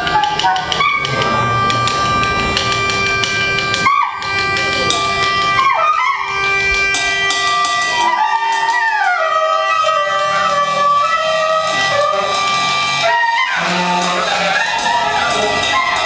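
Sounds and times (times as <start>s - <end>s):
baritone saxophone tones: 0.0s - 16.0s
drum and cymbal hits: 0.0s - 16.0s
pianica tones: 0.0s - 16.0s.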